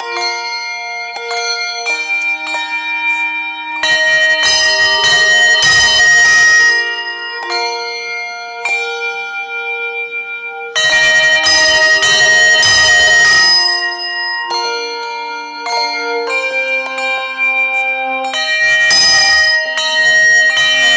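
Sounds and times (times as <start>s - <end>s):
handbell choir ringing chords: 0.0s - 20.9s.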